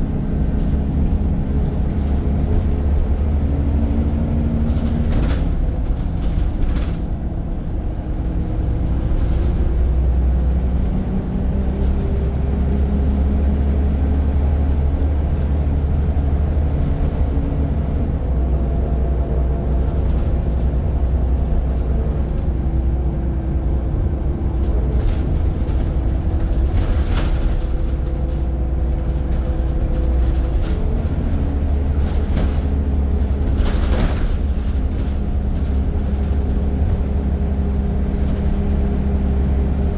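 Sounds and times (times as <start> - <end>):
bus body rattles and knocks: 0.0 - 39.9
bus engine rumble: 0.0 - 39.9.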